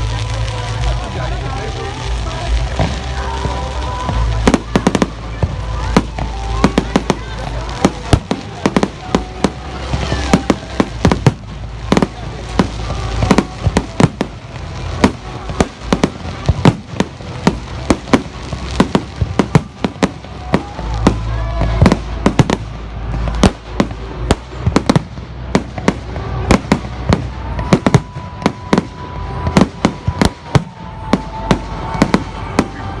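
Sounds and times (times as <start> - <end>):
fireworks bangs and cracks: 0.0 - 33.0.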